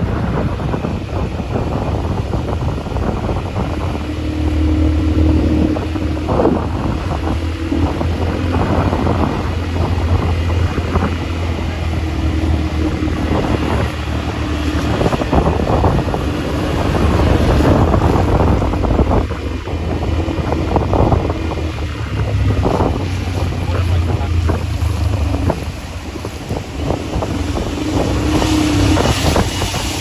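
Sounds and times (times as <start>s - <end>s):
atv engine running: 0.0s - 30.0s
wind buffeting microphone: 0.0s - 30.0s.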